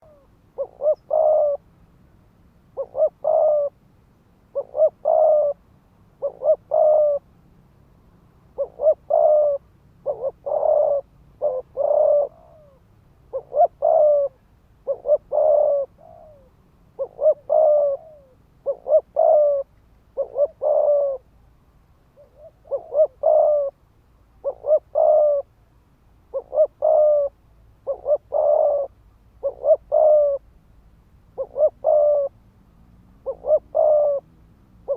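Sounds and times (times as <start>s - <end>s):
dove cooing rapidly: 0.0s - 1.7s, 2.7s - 3.8s, 4.5s - 5.6s, 6.2s - 7.3s, 8.5s - 21.3s, 22.1s - 25.5s, 26.3s - 30.6s, 31.3s - 32.4s, 33.2s - 34.9s.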